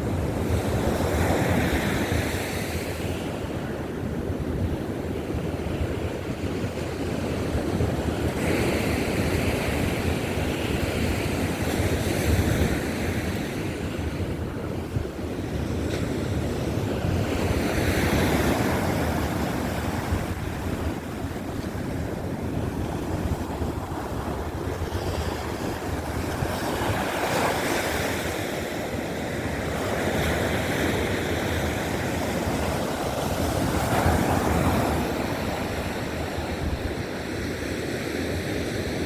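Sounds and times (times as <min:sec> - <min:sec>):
waves breaking on beach: 0:00.0 - 0:39.0
wind buffeting microphone: 0:00.0 - 0:39.0.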